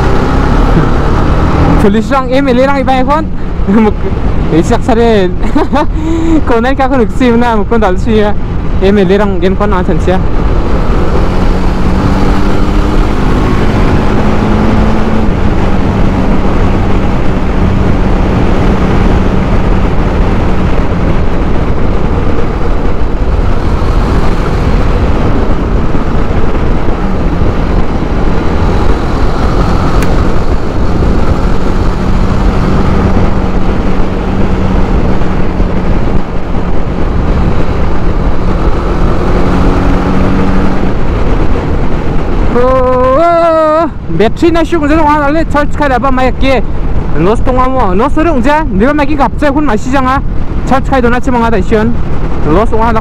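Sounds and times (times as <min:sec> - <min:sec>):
motorcycle engine cruising: 0:00.0 - 0:53.0
wind rush: 0:00.0 - 0:53.0.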